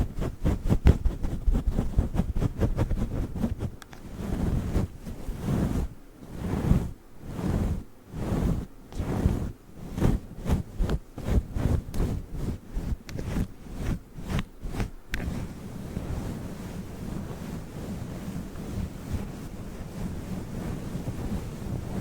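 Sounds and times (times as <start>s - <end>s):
microphone cover rubbing: 0.0s - 22.0s.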